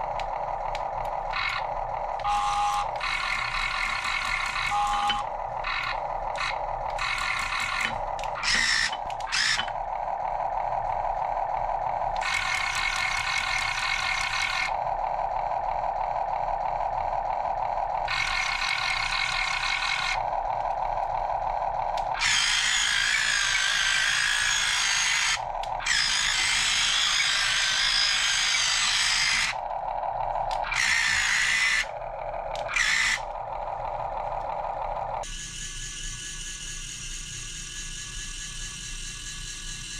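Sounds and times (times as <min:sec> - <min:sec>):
toy electric motors whirring: 0:00.0 - 0:39.9.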